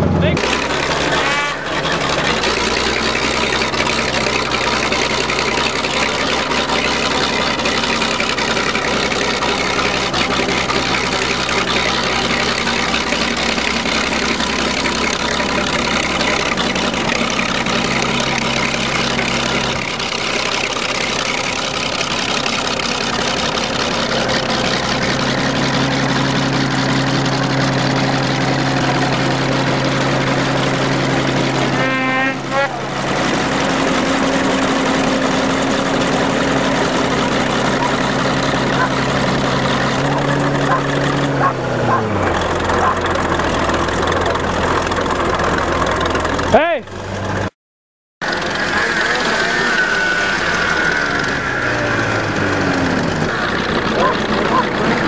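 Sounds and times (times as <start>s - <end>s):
bulldozer engine running: 0.0s - 47.5s, 48.2s - 55.0s.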